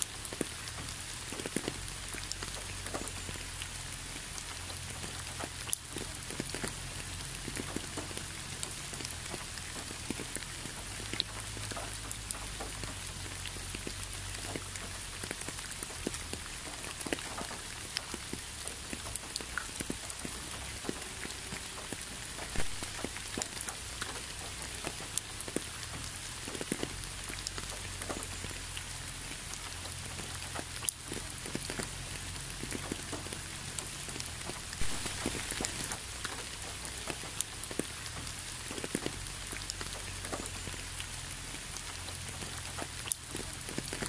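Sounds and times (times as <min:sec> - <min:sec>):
rain hiss: 0:00.0 - 0:44.0
raindrops ticking close by: 0:00.0 - 0:44.0.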